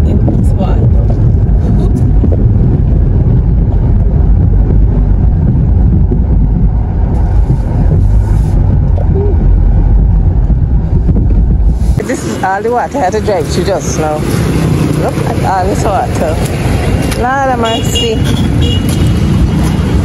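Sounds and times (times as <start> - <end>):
engine and tyres rumbling: 0.0 - 20.0.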